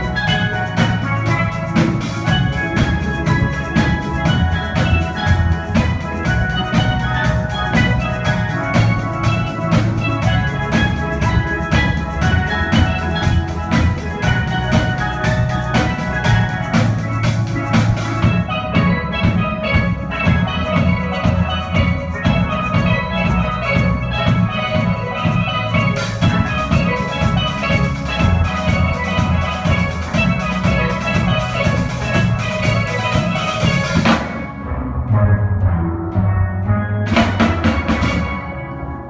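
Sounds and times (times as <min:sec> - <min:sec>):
cymbals: 0:00.0 - 0:39.0
drum kit: 0:00.0 - 0:39.0
steel band playing: 0:00.0 - 0:39.0.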